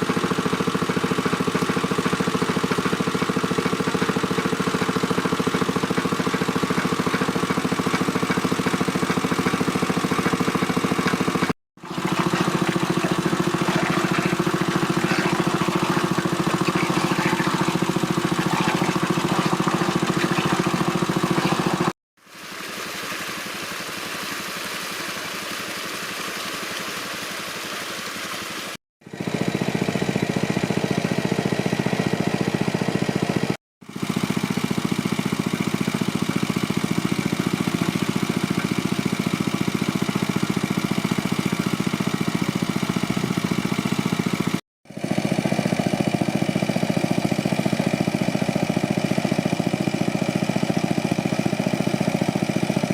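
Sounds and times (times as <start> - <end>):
small engine running: 0.0 - 52.9.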